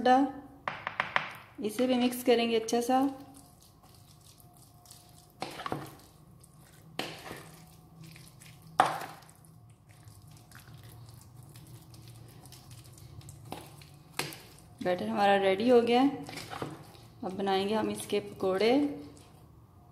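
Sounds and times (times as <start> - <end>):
spoon stirring thick batter: 2.9 - 19.6.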